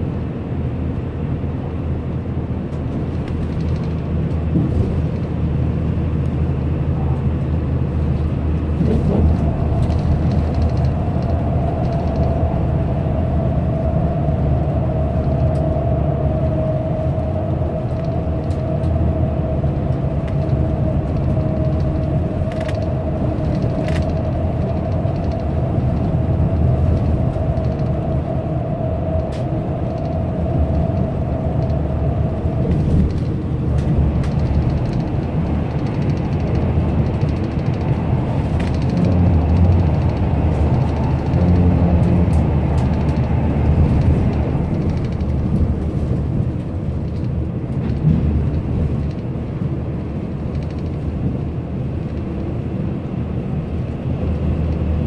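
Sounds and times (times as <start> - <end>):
bus engine and tyre rumble: 0.0 - 55.0
steady whine: 6.2 - 53.9.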